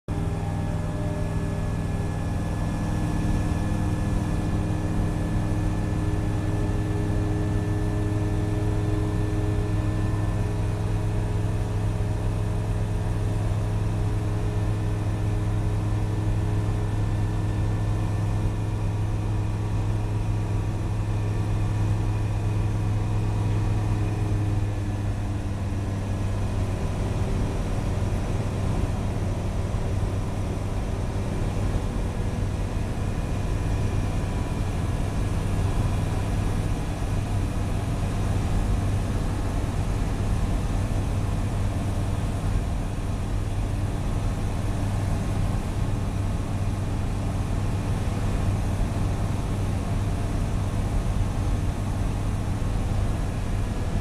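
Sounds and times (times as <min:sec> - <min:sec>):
light aircraft engine droning: 0:00.1 - 0:54.0.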